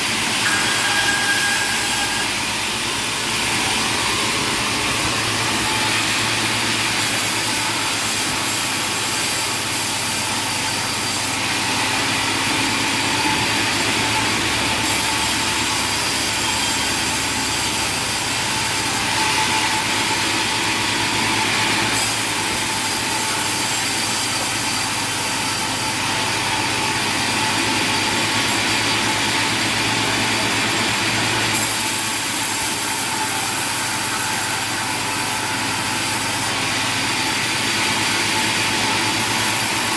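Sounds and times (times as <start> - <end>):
sawmill machinery humming and whining: 0.0 - 39.9.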